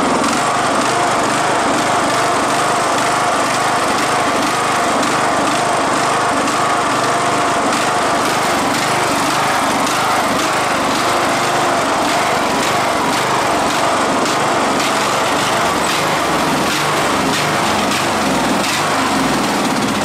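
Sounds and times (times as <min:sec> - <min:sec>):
small lawn tractor engine running: 0:00.0 - 0:20.0.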